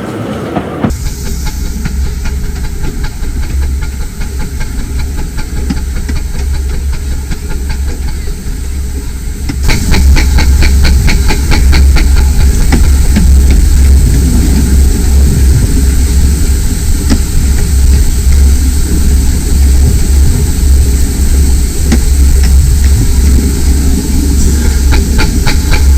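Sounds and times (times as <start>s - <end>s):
heavy low rumble: 0.0s - 25.9s
miniature train running: 0.0s - 25.9s
regular clicks of rails: 0.0s - 25.9s
steady hiss: 0.0s - 25.9s.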